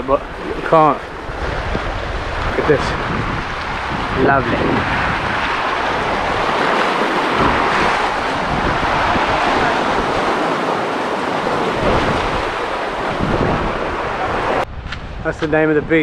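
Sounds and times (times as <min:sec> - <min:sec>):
sea waves washing over rocks: 0:00.0 - 0:14.7
wind rumbling on microphone: 0:00.0 - 0:16.0.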